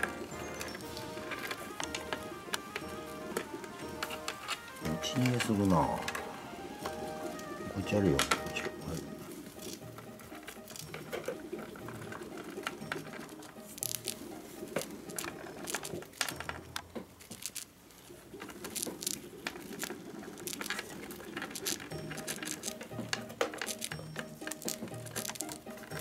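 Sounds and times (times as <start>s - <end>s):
hamsters crunching biscuits: 0.0s - 26.0s.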